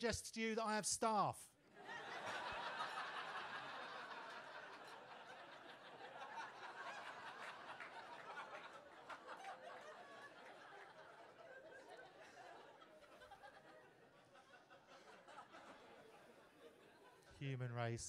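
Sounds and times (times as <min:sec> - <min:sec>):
audience laughing: 0:01.8 - 0:17.3.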